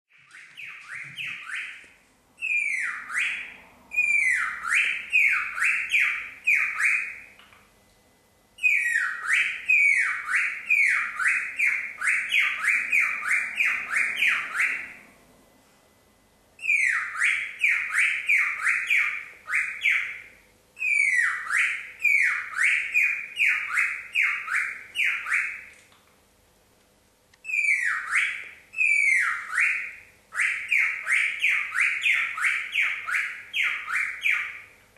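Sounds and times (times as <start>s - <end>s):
cockatiel whistling: 0.1s - 7.4s, 8.6s - 15.1s, 16.6s - 25.8s, 27.4s - 34.7s.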